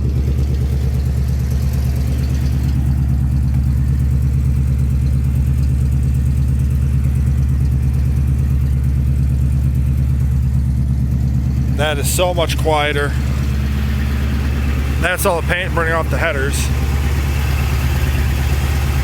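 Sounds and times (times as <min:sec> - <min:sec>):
quiet engine idling: 0:00.0 - 0:19.0.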